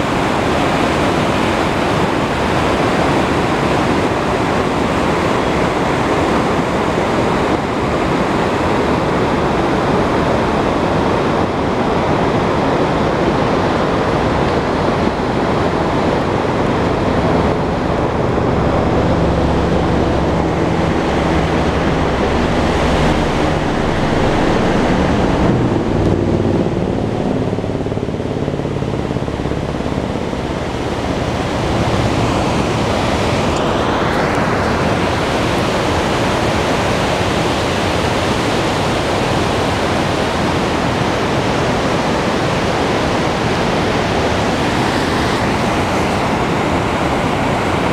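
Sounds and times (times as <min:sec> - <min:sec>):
river rushing over rocks: 0:00.0 - 0:47.9
wind on microphone: 0:00.0 - 0:47.9.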